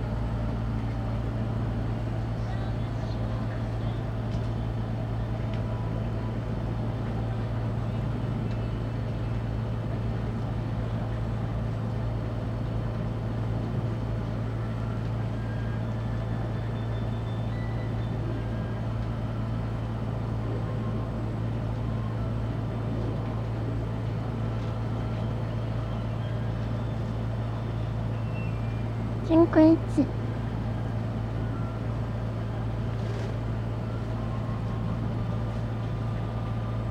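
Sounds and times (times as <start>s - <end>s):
boat engine humming: 0.0s - 36.9s.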